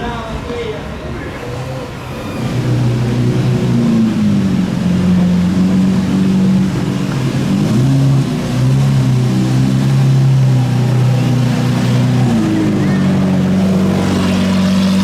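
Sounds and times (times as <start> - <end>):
car engine running at low revs: 1.8 - 15.0.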